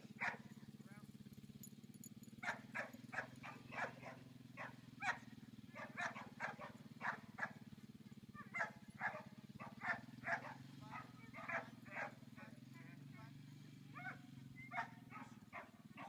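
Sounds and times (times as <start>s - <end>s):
dog barking: 0.2s - 0.5s, 2.4s - 7.7s, 8.4s - 16.0s.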